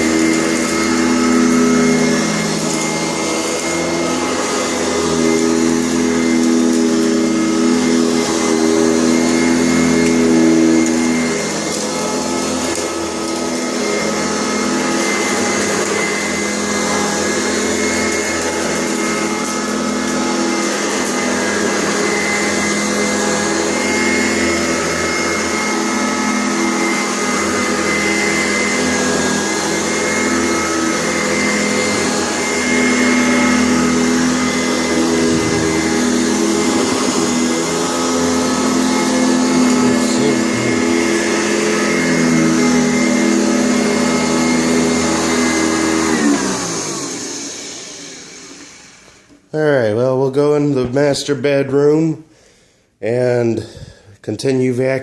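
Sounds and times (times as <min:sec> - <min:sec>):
vacuum cleaner humming: 0:00.0 - 0:51.4.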